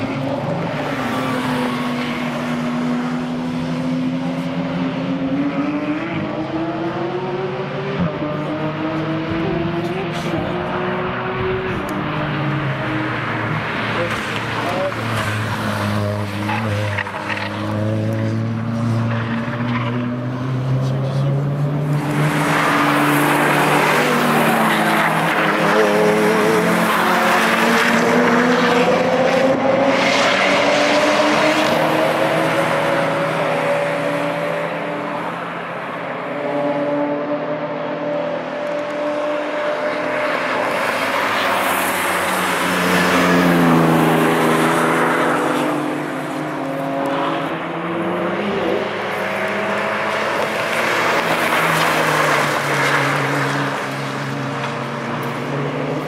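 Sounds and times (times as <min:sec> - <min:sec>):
race cars passing at speed: 0:00.0 - 0:56.0.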